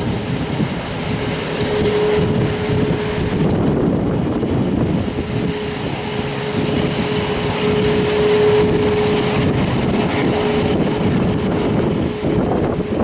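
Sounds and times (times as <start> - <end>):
jet engines running: 0.0 - 13.0
wind buffeting microphone: 0.0 - 13.0.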